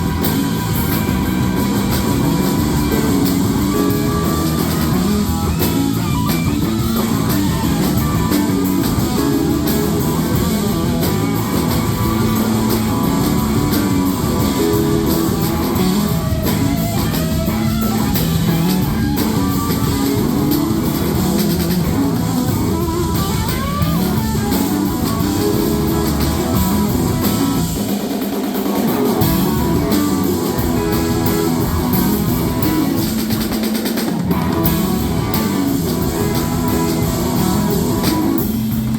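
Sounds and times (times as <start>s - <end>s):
electric guitar: 0.0s - 38.9s
live rock band instrumental: 0.0s - 38.9s.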